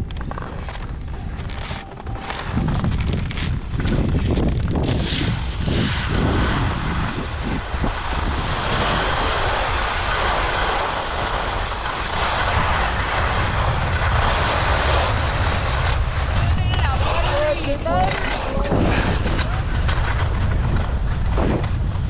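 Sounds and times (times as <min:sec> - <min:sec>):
skis scraping on icy snow: 0:00.0 - 0:22.0.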